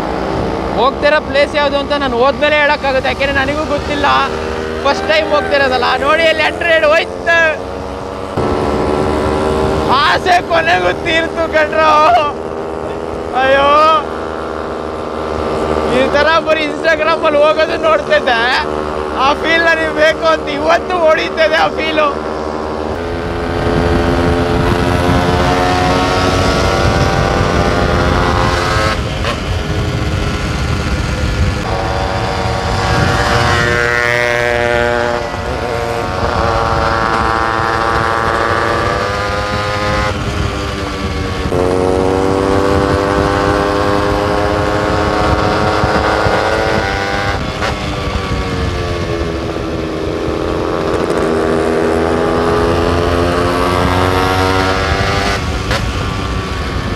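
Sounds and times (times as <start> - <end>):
low wind rumble: 0.0 - 56.9
motorcycle engine accelerating: 0.0 - 56.9.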